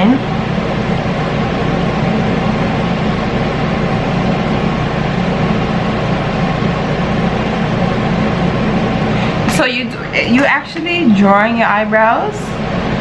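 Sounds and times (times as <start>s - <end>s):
machine hum and hiss: 0.0s - 13.0s.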